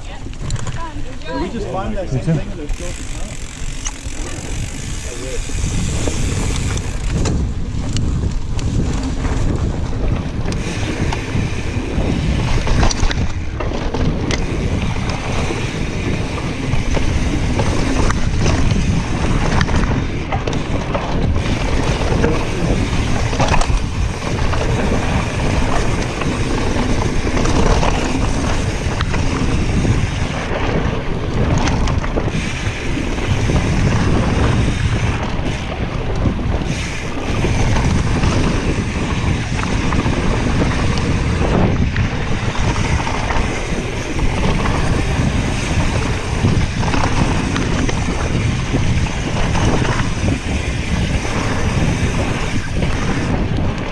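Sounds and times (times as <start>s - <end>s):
bike knocking and rattling: 0.0s - 53.9s
bike tyres rumbling: 0.0s - 53.9s
wind rushing over microphone: 0.0s - 53.9s.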